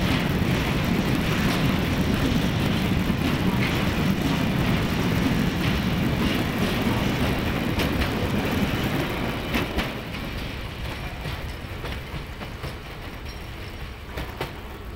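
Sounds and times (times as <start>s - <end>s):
diesel locomotive engine rumbling: 0.0s - 14.9s
wheels clicking over rails: 0.0s - 14.9s.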